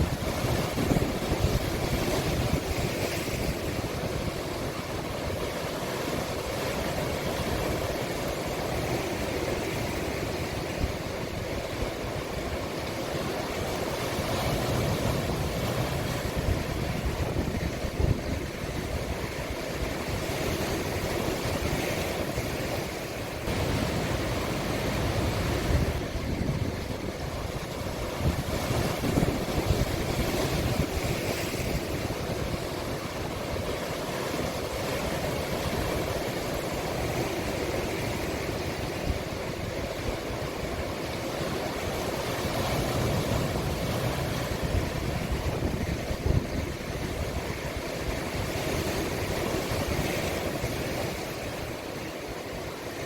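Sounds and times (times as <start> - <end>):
sea waves surf hiss: 0.0 - 53.0
wind rumbling on microphone: 0.0 - 53.0.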